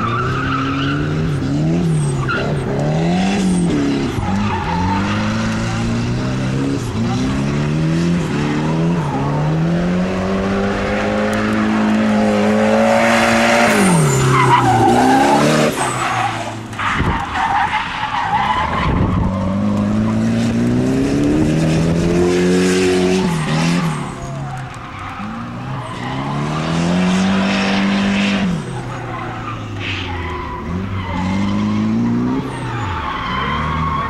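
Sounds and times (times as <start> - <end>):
car engine at high revs: 0.0 - 34.0
tyres skidding and squealing: 0.0 - 34.0.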